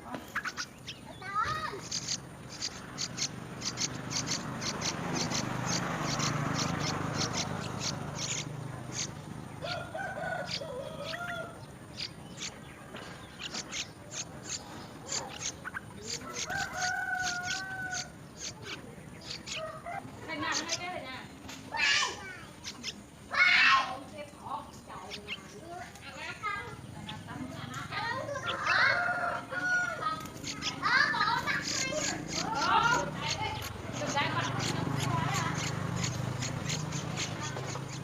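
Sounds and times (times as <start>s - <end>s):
low wavering bird calls: 0.0s - 38.0s
small birds chirping: 0.0s - 38.0s.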